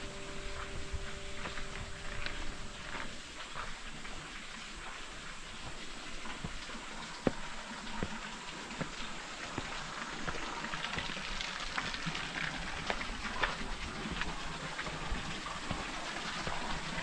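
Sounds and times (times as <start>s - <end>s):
waterfall splashing onto rocks: 0.4s - 17.0s.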